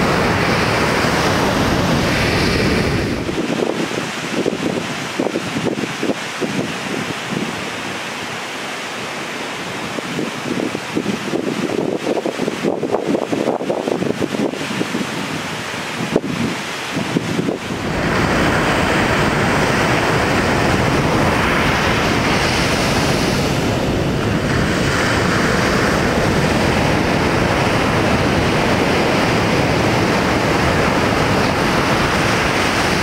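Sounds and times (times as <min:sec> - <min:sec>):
wind buffeting microphone: 0:00.0 - 0:08.0, 0:09.6 - 0:33.0
ocean surf breaking: 0:00.0 - 0:33.0.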